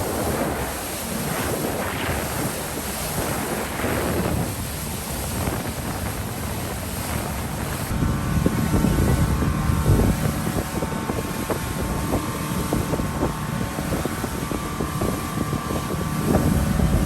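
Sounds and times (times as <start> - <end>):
speedboat engine rumbling: 0.0 - 17.0
wind on microphone: 0.0 - 17.0.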